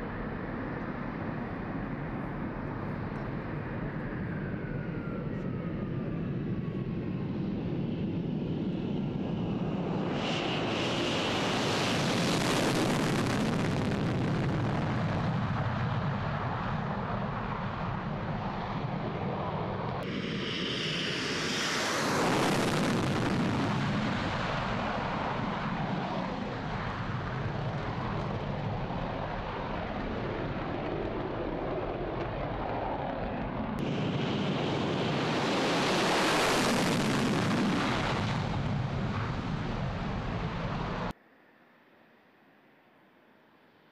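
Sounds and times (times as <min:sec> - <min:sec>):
jet engines roaring past: 0:00.0 - 0:41.2.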